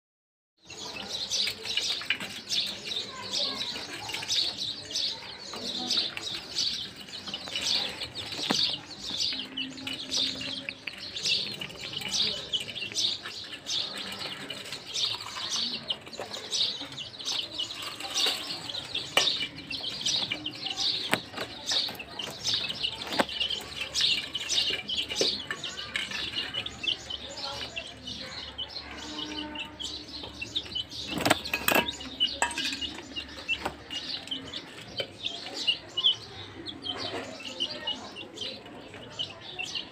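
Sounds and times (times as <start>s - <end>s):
chicks peeping: 0.7s - 39.9s.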